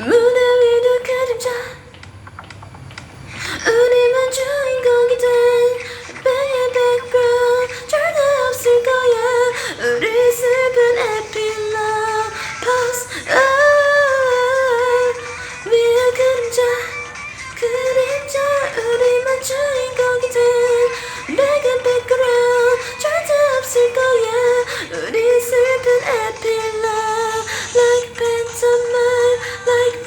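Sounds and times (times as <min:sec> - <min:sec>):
person singing: 0:00.0 - 0:02.0, 0:03.4 - 0:30.0.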